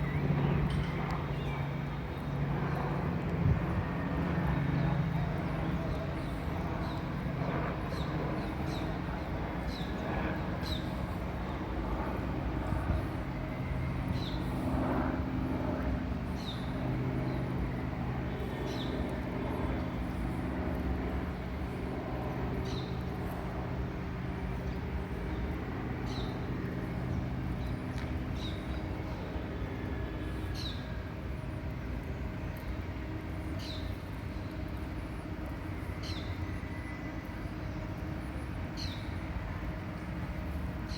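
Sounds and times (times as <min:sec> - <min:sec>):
low traffic hum: 0:00.0 - 0:40.9.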